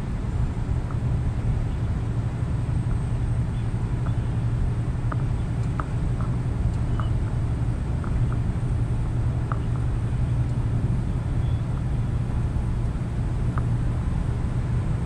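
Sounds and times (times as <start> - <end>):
truck engine and tyre drone: 0.0 - 15.0.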